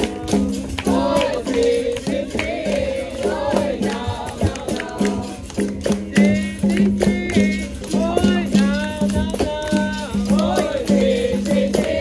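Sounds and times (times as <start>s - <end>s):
group singing: 0.0s - 12.0s
pandeiro strokes: 0.0s - 12.0s.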